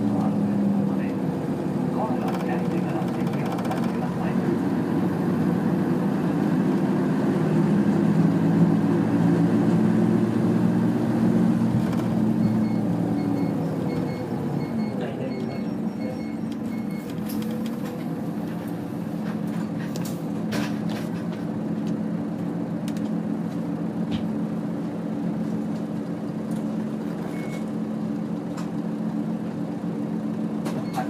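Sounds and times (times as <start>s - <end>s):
diesel bus engine drone: 0.0s - 31.0s.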